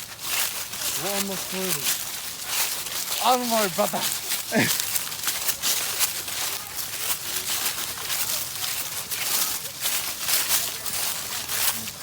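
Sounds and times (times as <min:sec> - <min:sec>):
footsteps crunching on forest path: 0:00.0 - 0:12.0.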